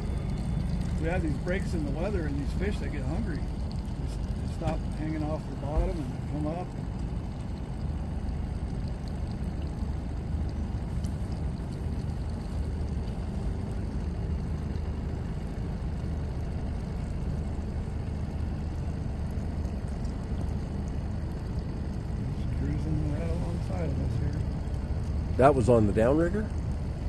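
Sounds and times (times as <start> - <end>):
boat motor humming: 0.0 - 27.0.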